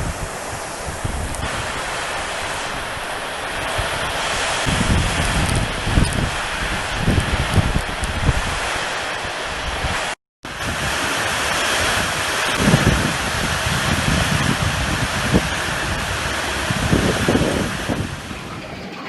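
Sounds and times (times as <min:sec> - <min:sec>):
heavy rain: 0:00.0 - 0:19.0
running rainwater: 0:00.0 - 0:19.0
wind thumping on microphone: 0:00.0 - 0:19.0.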